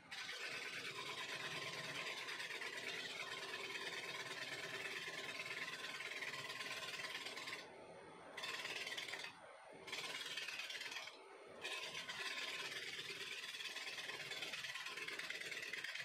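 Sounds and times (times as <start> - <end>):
lathe tool scraping wood: 0.1 - 7.6, 8.4 - 16.0
wood lathe humming: 0.1 - 7.6, 8.4 - 9.3, 9.9 - 16.0.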